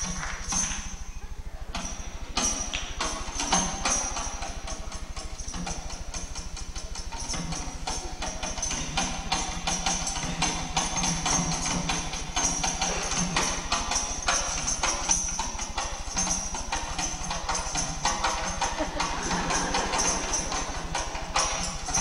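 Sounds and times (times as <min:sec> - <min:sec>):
rhythmic percussion music: 0:00.0 - 0:22.0
steady low hum: 0:00.0 - 0:22.0
tambourine-like jingling: 0:00.0 - 0:22.0.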